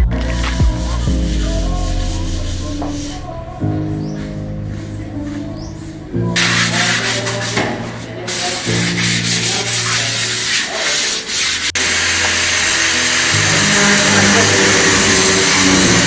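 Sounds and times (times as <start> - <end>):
abrasive sanding: 0.2 - 16.0.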